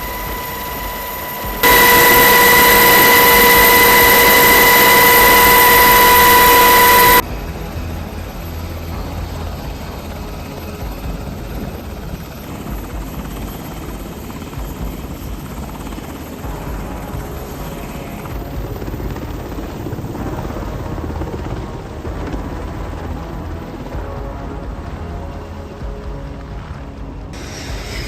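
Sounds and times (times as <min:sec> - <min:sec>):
helicopter engine drone: 0:00.0 - 0:28.0.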